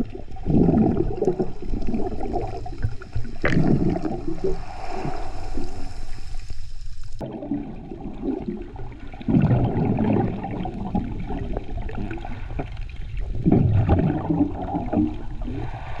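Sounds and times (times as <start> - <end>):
underwater water rushing and gurgling: 0.0 - 16.0.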